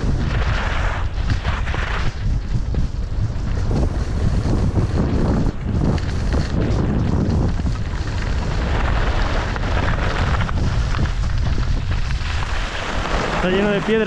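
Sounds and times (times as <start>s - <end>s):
skis scraping on hard snow: 0.0s - 14.0s
wind rushing over microphone: 0.0s - 14.0s.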